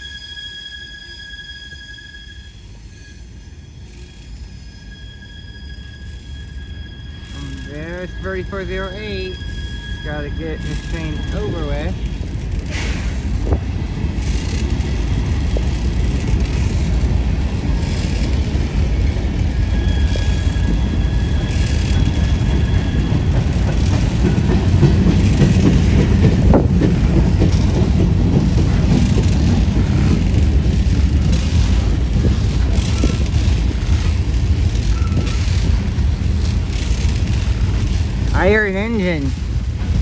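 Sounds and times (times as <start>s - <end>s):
thin wheel squeal: 0.0s - 13.2s, 14.2s - 24.4s, 28.8s - 39.3s
freight train wheels rumbling: 0.0s - 40.0s.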